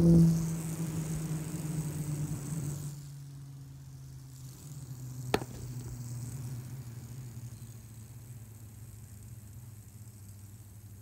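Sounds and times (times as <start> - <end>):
fidget spinner whirring: 0.0 - 11.0.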